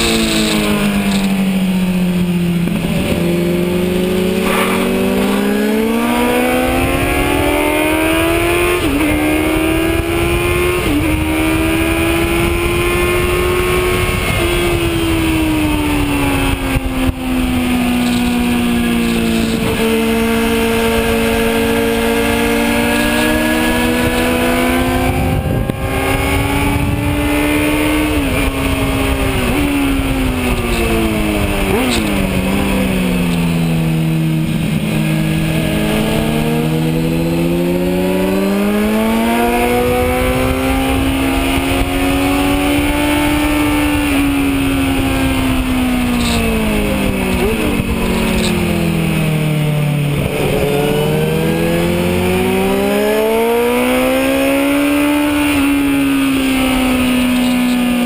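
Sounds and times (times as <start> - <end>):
heavy wind rush: 0.0 - 58.0
motorcycle engine at racing speed: 0.0 - 58.0.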